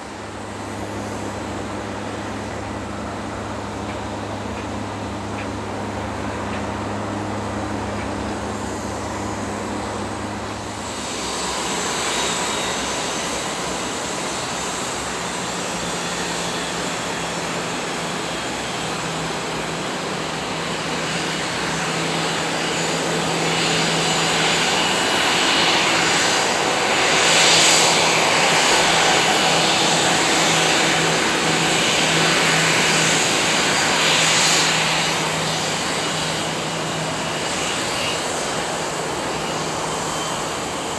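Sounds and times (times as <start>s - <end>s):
ground vehicle engine drone: 0.0s - 40.9s
jet engines whining: 0.0s - 40.9s.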